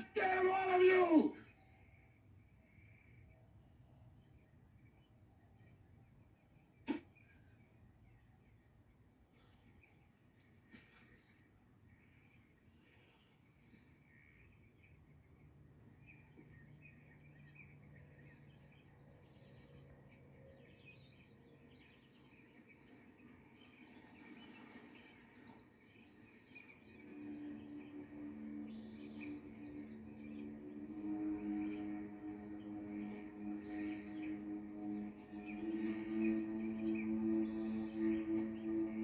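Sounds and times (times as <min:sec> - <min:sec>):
crickets chirping: 0:00.0 - 0:39.0
low sustained music tones: 0:00.0 - 0:39.0.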